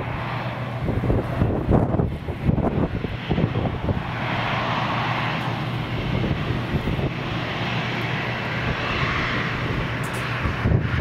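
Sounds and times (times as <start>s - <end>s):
jet engines rushing hiss: 0.0s - 11.0s.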